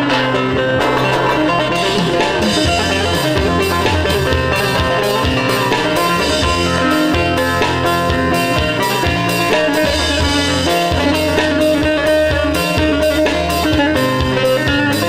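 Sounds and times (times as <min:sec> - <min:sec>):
amplified plucked string instruments: 0:00.0 - 0:15.0
steady drum beat: 0:00.8 - 0:15.0.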